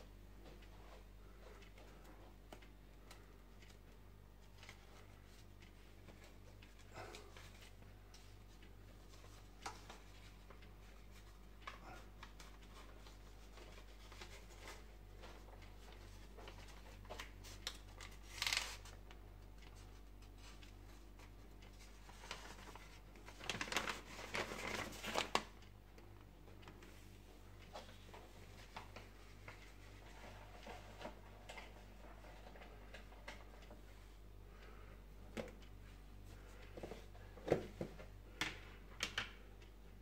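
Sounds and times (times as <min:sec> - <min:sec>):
faint steady low hum: 0:00.0 - 0:40.0
paper filter rustling and crinkling: 0:00.4 - 0:25.6, 0:26.5 - 0:34.1.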